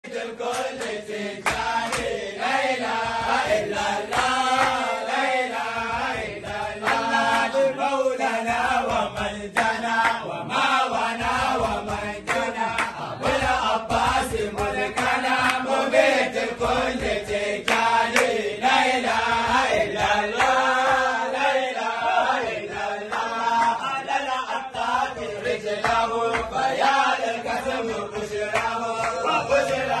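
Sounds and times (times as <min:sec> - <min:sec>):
men chanting a devotional song: 0:00.0 - 0:30.0.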